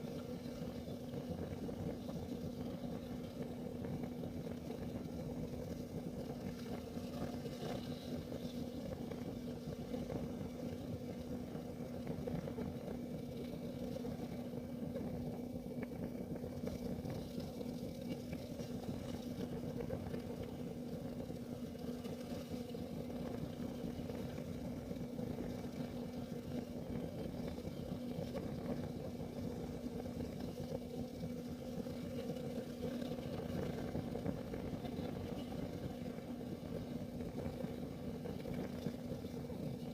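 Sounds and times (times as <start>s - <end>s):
faint constant hum: 0.0s - 39.9s
heater burning low rumble: 0.0s - 39.9s.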